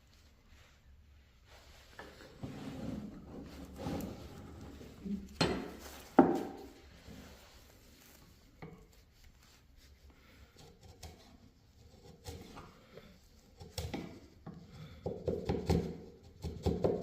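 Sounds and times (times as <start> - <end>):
faint taps and scrapes: 1.5 - 17.0.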